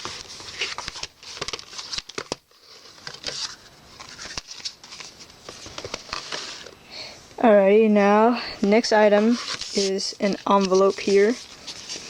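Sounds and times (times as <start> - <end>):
card and paper rustling: 0.0 - 6.8, 8.6 - 12.0.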